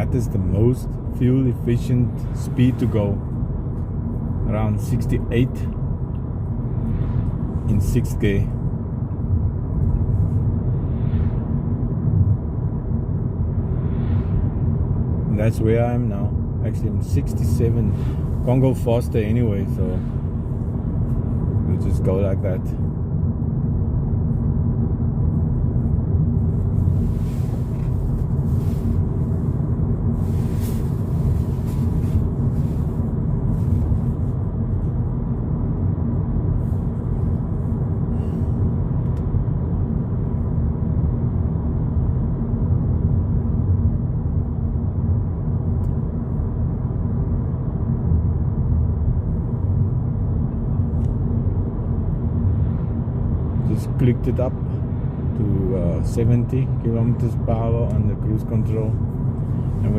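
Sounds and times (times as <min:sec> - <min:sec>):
car engine at low revs: 0:00.0 - 0:59.9
road and tyre noise: 0:00.0 - 0:59.9.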